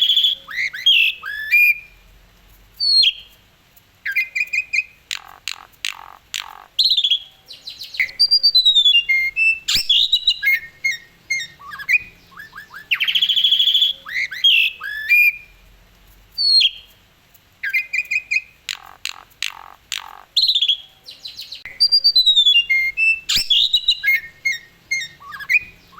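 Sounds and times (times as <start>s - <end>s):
starling singing whistled song: 0.0s - 2.0s, 2.8s - 3.3s, 4.0s - 15.6s, 16.4s - 16.9s, 17.6s - 25.9s.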